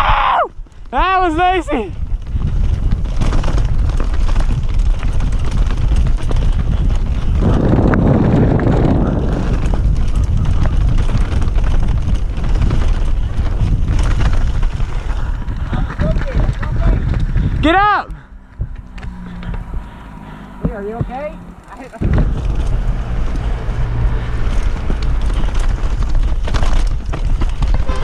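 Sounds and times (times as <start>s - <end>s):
wind rushing over microphone: 0.0s - 28.0s
mountain bike rattling on trail: 0.1s - 28.0s.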